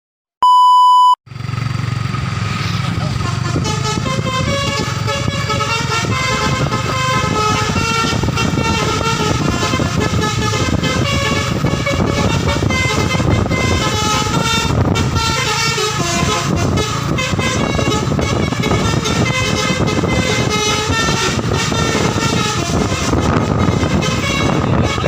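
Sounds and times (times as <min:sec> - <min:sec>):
low engine rumble: 0:01.3 - 0:25.0
bus horn playing a melody: 0:03.2 - 0:25.0.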